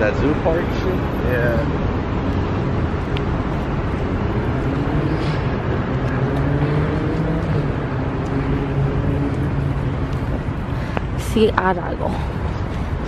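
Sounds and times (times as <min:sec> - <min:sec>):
passing vehicle engine hum: 0:00.0 - 0:13.0
road noise: 0:00.0 - 0:13.0.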